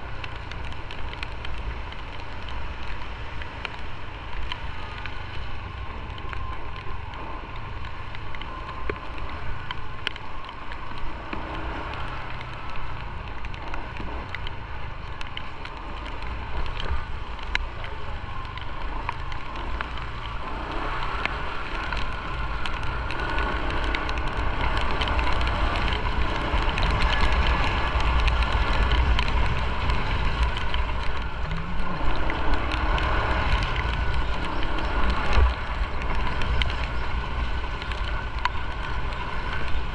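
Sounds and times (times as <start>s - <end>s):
motorcycle engine rumble: 0.0s - 39.9s
raindrops ticking on camera: 0.0s - 39.9s.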